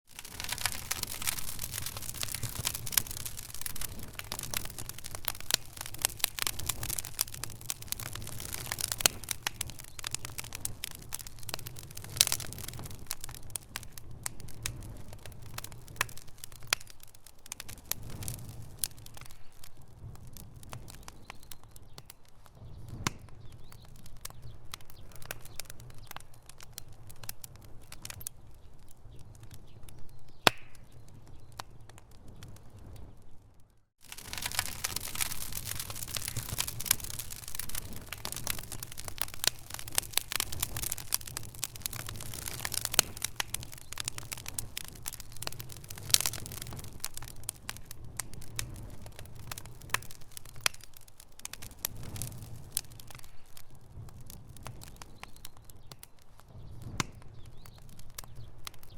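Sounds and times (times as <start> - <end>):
low rumble of flame: 0.1 - 58.9
wood fire crackling and popping: 0.1 - 58.9.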